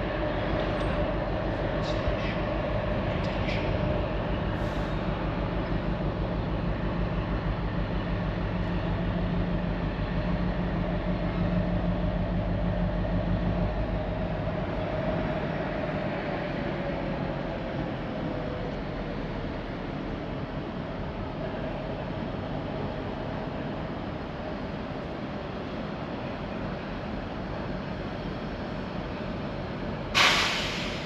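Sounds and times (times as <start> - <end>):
train mechanical drone: 0.0 - 31.0.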